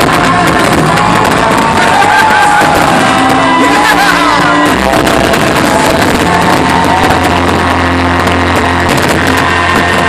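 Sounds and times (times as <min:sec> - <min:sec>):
fireworks cracking: 0:00.0 - 0:10.0
loud rock music: 0:00.0 - 0:10.0.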